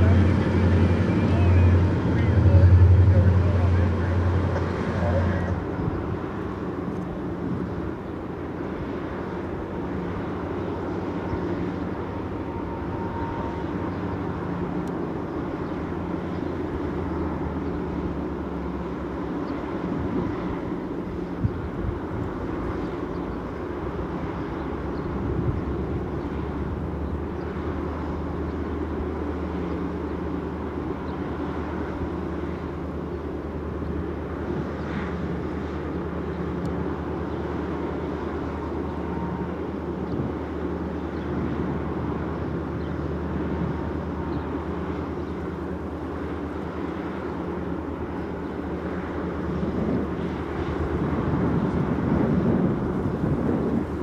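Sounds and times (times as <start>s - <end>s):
locomotive engine rumbling: 0.0s - 54.0s.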